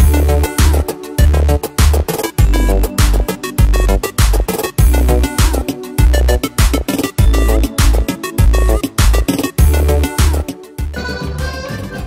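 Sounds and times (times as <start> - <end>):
drum hits on steady beat: 0.0 - 10.5
heavy bass notes: 0.0 - 11.0.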